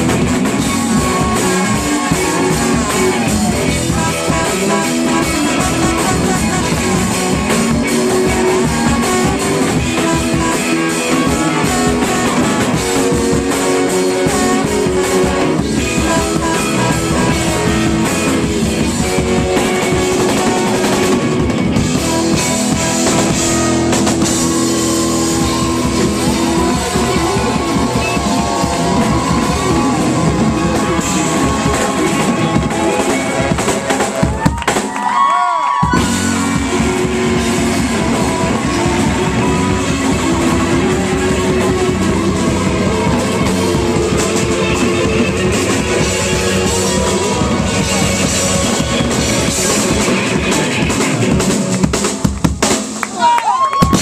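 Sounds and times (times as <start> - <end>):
drum kit: 0.0 - 54.0
electric guitar: 0.0 - 54.0
live rock band playing: 0.0 - 54.0.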